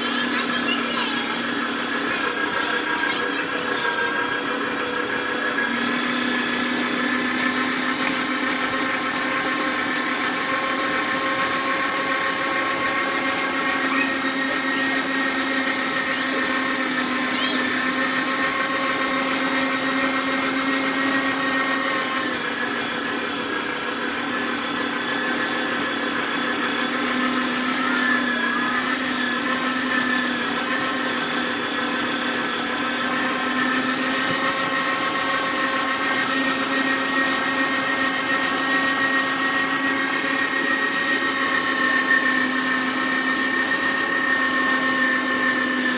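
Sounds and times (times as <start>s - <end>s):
electric meat grinder whining: 0.0s - 45.9s.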